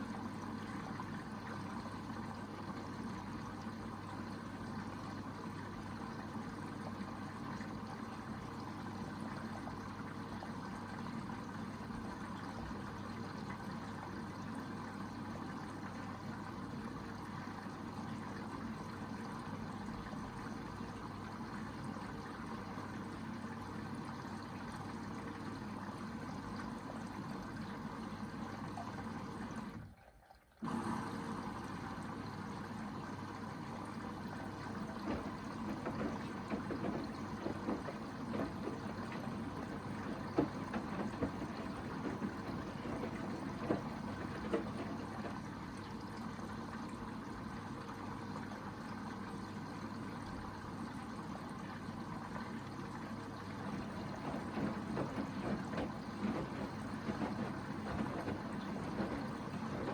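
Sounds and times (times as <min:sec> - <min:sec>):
water sloshing in washing machine: 0:00.0 - 0:59.9.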